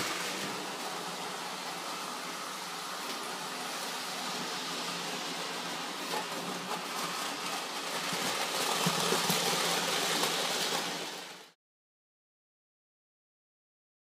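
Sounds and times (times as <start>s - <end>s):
toy trains rolling on track: 0.0s - 11.6s.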